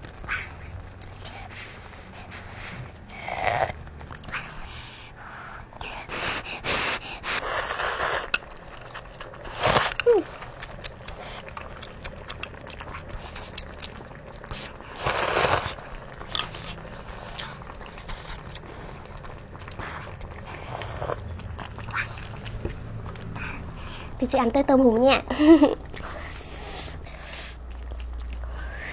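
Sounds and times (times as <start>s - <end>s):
chewing: 0.0s - 24.3s, 25.7s - 28.9s
slurping noodles: 0.1s - 24.2s.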